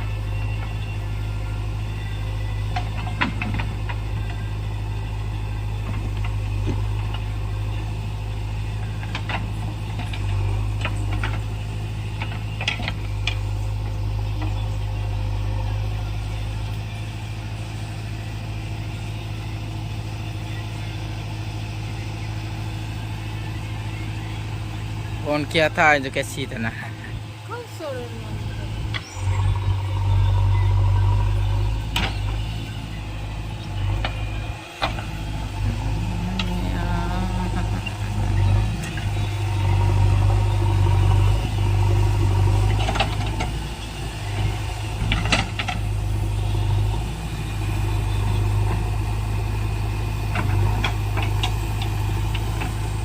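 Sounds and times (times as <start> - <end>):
diesel engine running at low revs: 0.0 - 53.0.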